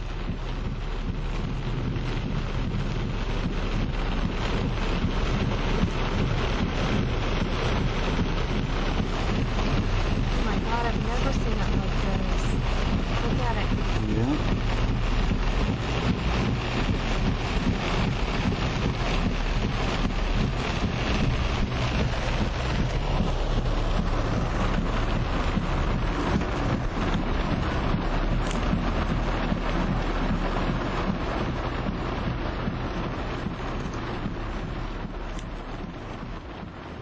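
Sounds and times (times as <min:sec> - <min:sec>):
heavy rain: 0:00.0 - 0:37.0
wind buffeting microphone: 0:00.0 - 0:37.0.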